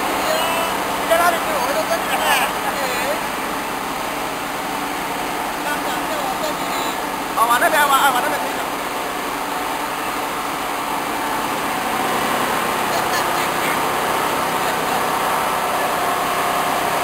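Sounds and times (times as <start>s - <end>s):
washing machinery running: 0.0s - 17.0s.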